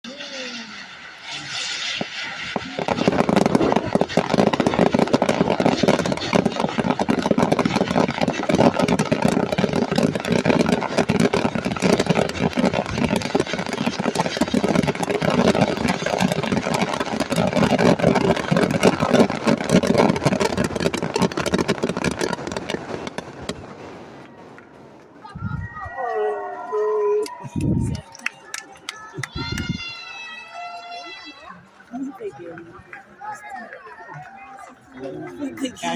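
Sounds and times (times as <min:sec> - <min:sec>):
fireworks bangs and crackling: 0:00.0 - 0:26.3, 0:27.2 - 0:35.9.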